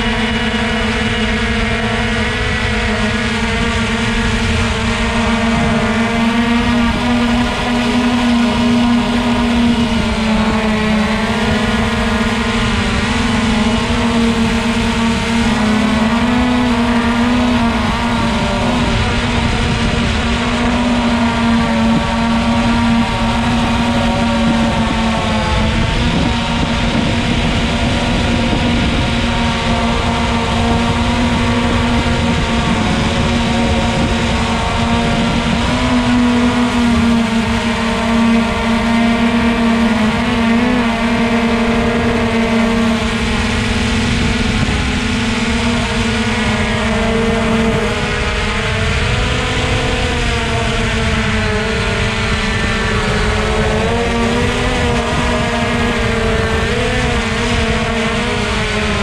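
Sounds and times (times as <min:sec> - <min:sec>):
model aircraft motor buzzing: 0:00.0 - 0:59.0
wind noise: 0:00.0 - 0:59.0.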